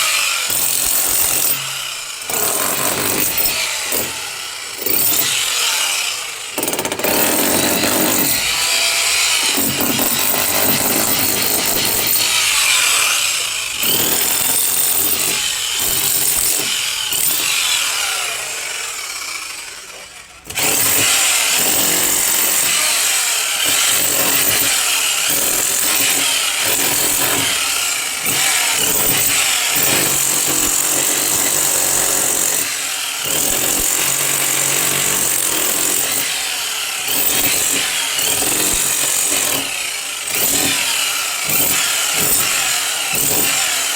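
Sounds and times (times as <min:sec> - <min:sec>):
power tool whining: 0:00.0 - 0:43.9.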